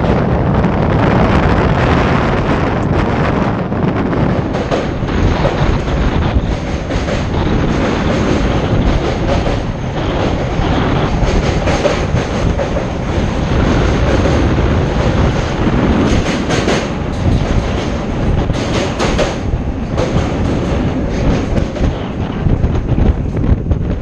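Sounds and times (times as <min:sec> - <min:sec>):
train wheels rumbling on rails: 0:00.0 - 0:24.0
wind buffeting microphone: 0:00.0 - 0:24.0.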